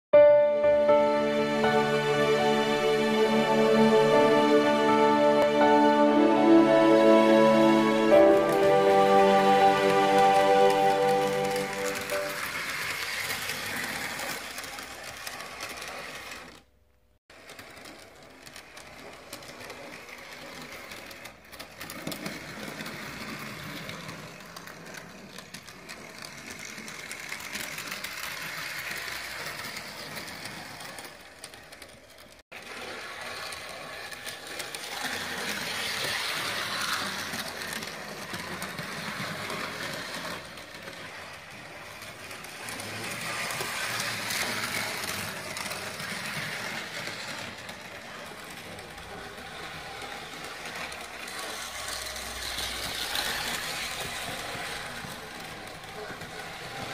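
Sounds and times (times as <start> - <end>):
model trams whirring: 0.2 - 16.7, 17.3 - 56.9.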